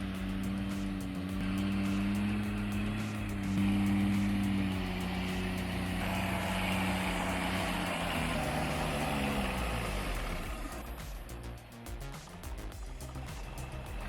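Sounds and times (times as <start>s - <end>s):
truck engine straining: 0.0s - 14.0s.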